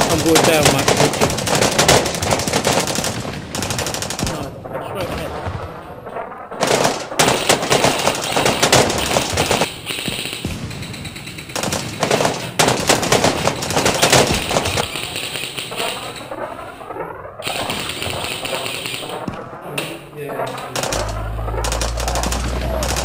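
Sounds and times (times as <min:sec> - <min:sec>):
airsoft guns firing full-auto: 0:00.0 - 0:04.6, 0:05.2 - 0:19.6, 0:20.4 - 0:23.0.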